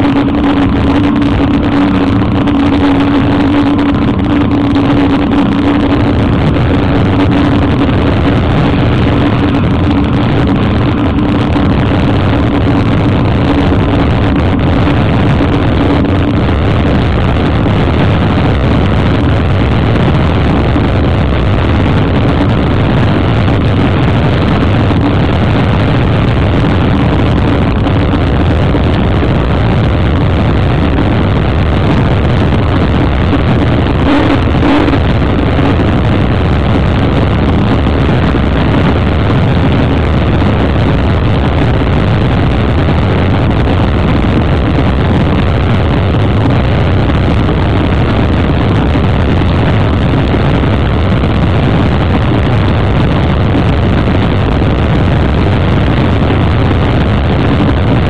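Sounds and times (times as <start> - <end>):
powerboat engine drone: 0.0 - 58.0
rushing water: 0.0 - 58.0
rushing wind: 0.0 - 58.0.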